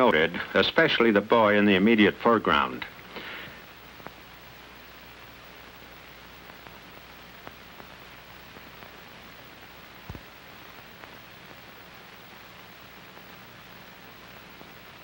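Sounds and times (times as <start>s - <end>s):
analog recording hiss and hum: 0.0s - 15.0s.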